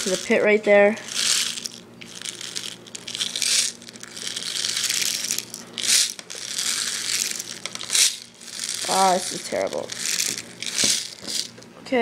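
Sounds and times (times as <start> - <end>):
steel bbs pouring and rattling: 0.0 - 11.6.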